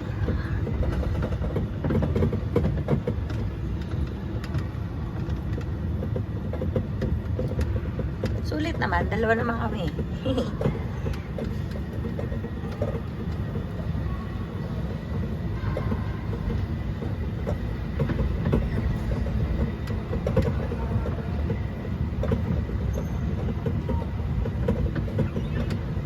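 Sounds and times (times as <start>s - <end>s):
ride train rumbling: 0.0s - 26.0s.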